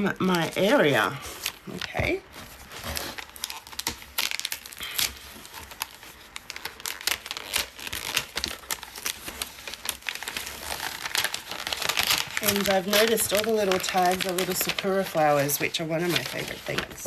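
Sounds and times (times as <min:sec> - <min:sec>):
wrapping paper crinkling and tearing: 0:00.0 - 0:17.0.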